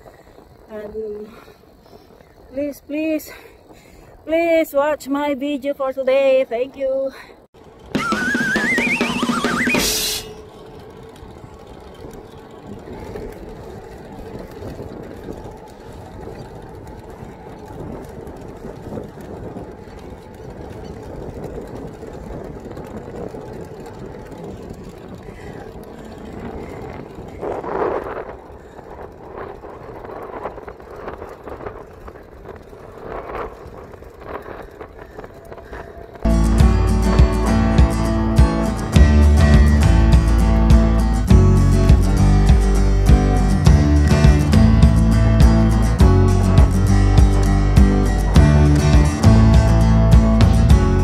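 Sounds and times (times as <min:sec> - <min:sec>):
wind and road rushing noise: 0:06.1 - 0:51.0.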